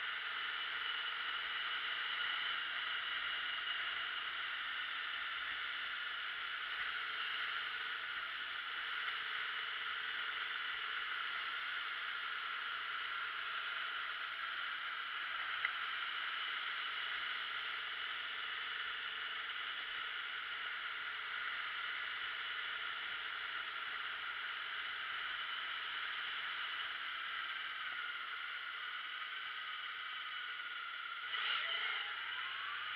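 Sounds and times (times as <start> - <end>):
motorcycle road noise: 0.0 - 32.9.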